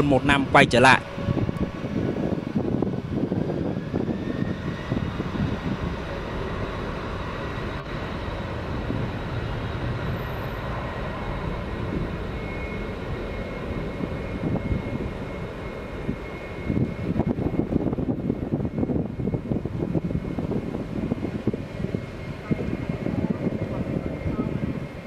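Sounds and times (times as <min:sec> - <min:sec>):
jet aircraft taking off: 0:00.0 - 0:25.0.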